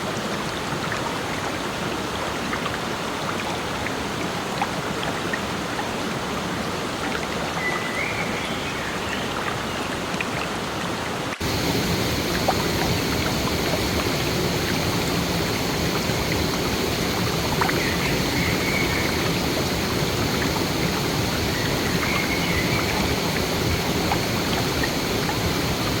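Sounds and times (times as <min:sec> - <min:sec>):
water rushing in a stream: 0:00.0 - 0:26.0.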